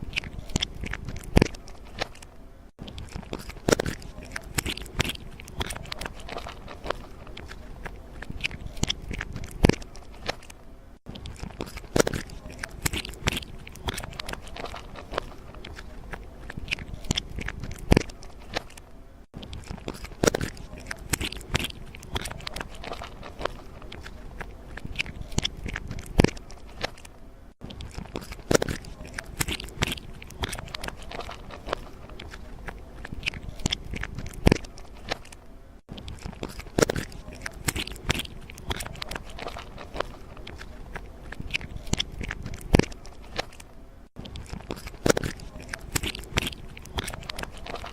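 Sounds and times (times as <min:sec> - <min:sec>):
irregular crunching and crackling clicks: 0:00.0 - 0:47.9.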